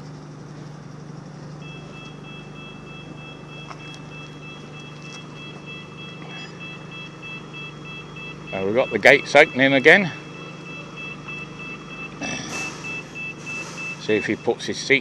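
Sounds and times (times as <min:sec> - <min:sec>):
vehicle engine idling: 0:00.0 - 0:15.0
two-tone warning beeps: 0:01.6 - 0:15.0.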